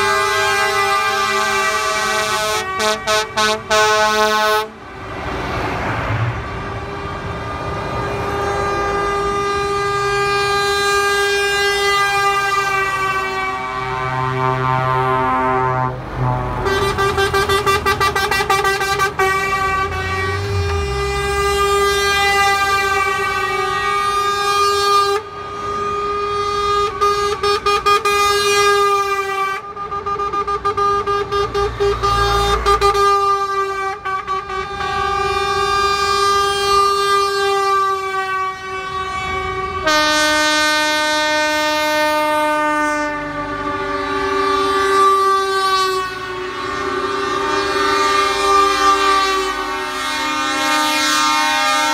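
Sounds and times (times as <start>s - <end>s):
lorry air horn blasts: 0.0s - 4.7s, 7.9s - 51.9s
truck engines rumbling: 0.0s - 51.9s
low multi-note horn: 8.0s - 51.9s.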